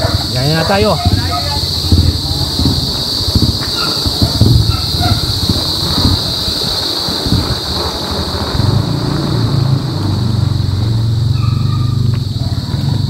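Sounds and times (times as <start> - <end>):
wind on microphone: 0.0 - 10.7
steady high hiss: 0.0 - 13.0
tyres rumbling on concrete: 0.0 - 13.0.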